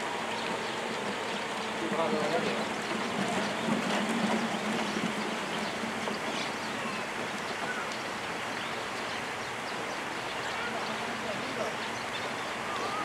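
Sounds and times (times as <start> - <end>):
even outdoor hiss: 0.0 - 13.0.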